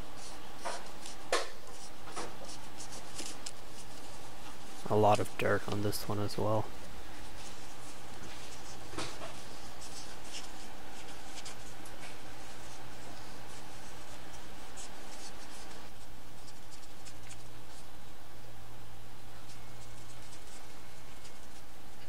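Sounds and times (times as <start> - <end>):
low electrical hum: 0.0 - 22.0
scratching and rubbing: 0.1 - 6.2, 7.2 - 17.9, 19.4 - 22.0.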